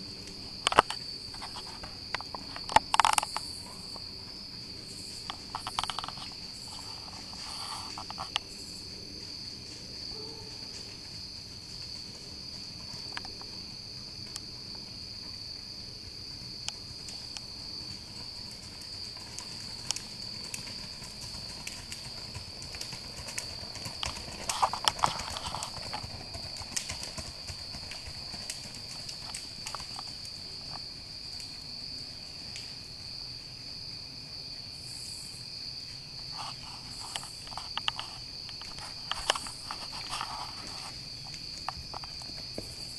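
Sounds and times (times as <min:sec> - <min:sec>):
horse hoofbeats on dirt trail: 0:00.0 - 0:34.7, 0:35.4 - 0:42.9
crickets chirping: 0:00.0 - 0:42.9.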